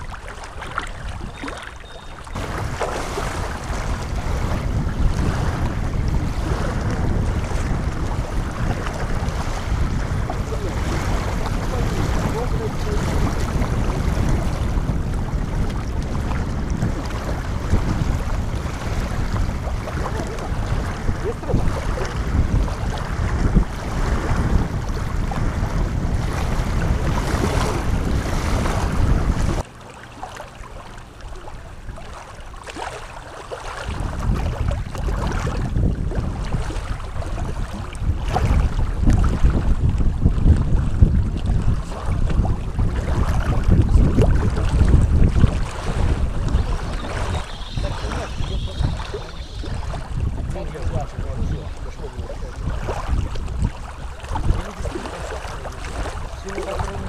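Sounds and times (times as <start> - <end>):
wind buffeting microphone: 0.0 - 29.7, 30.8 - 57.0.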